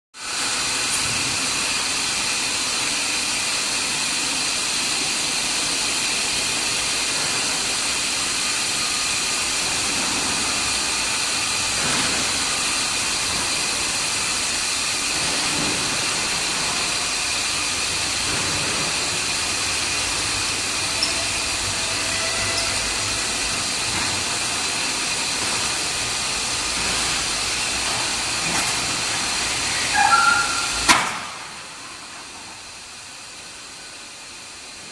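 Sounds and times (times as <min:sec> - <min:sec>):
industrial machinery hiss: 0:00.2 - 0:34.9.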